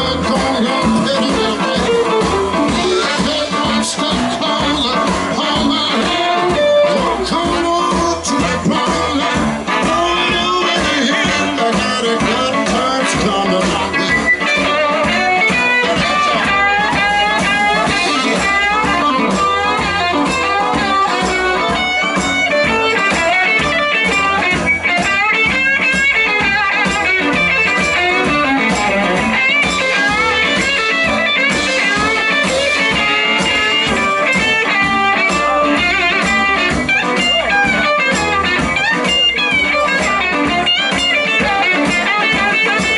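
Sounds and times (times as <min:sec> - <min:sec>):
blues band playing: 0:00.0 - 0:42.9
guitar: 0:00.0 - 0:42.9
steady drum beat: 0:00.0 - 0:42.9.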